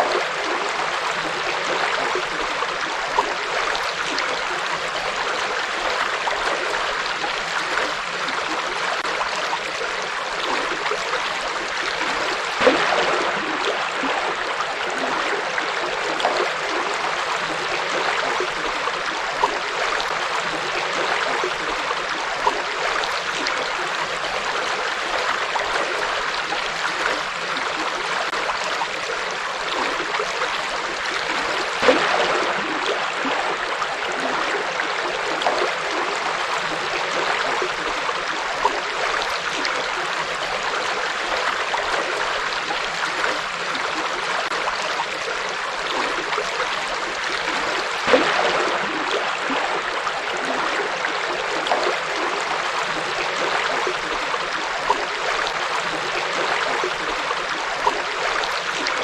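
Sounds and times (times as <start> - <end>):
water splashes: 0.0 - 59.0.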